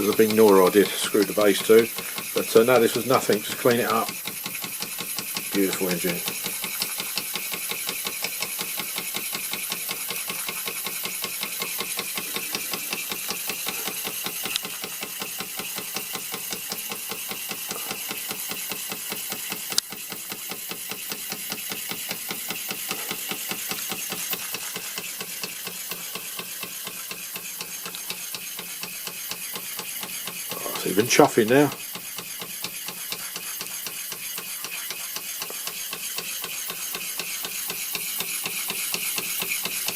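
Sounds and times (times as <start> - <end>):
toy steam engine chuffing: 0.0 - 39.9.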